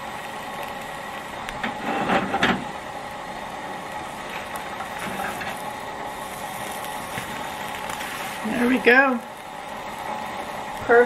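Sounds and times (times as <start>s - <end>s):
omelet sizzling in frying pan: 0.0s - 11.0s.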